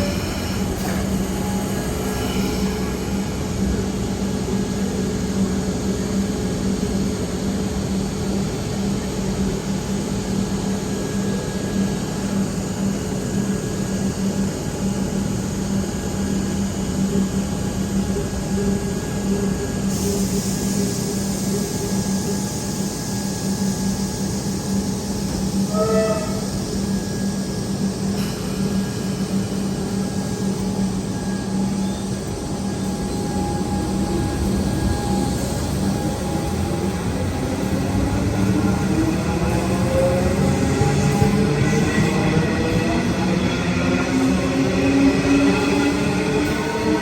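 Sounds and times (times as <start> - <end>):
train mechanical hum: 0.0 - 47.0.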